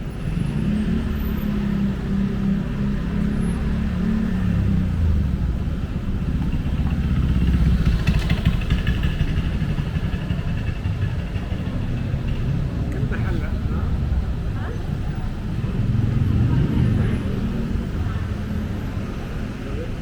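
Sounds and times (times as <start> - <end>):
street noise: 0.0 - 20.0
vehicle engine rumbling: 0.0 - 20.0.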